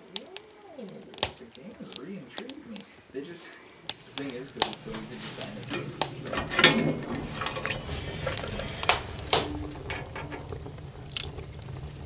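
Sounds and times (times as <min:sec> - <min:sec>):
wood crackling and popping in stove: 0:00.0 - 0:12.0.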